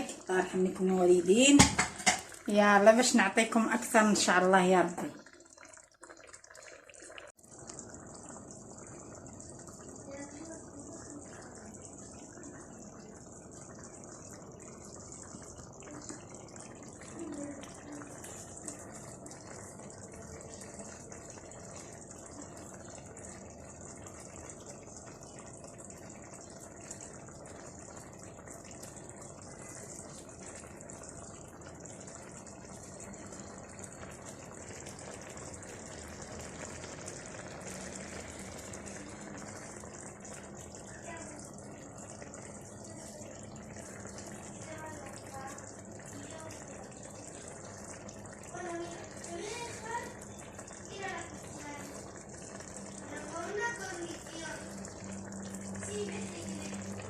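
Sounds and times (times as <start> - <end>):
broth bubbling and sizzling: 0.0 - 57.0.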